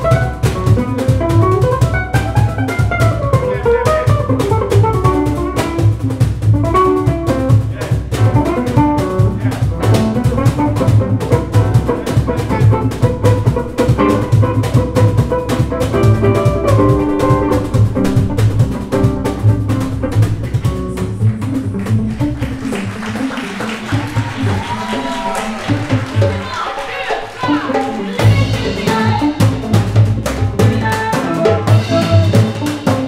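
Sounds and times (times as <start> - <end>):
drum kit with cymbals: 0.0 - 23.1, 27.2 - 33.0
double bass: 0.0 - 26.5, 27.6 - 33.0
guitar: 0.0 - 26.5, 27.2 - 33.0
piano: 0.0 - 26.5, 27.8 - 33.0.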